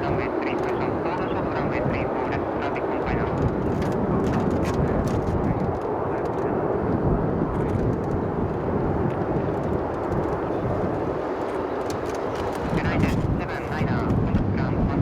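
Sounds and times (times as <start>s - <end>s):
jet engines rumbling: 0.0s - 15.0s
wind on microphone: 0.0s - 15.0s.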